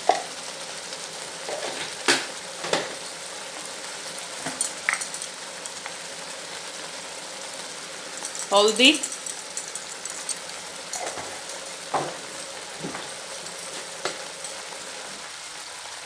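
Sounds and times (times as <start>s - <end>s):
onion paste sizzling in oil: 0.0s - 16.0s.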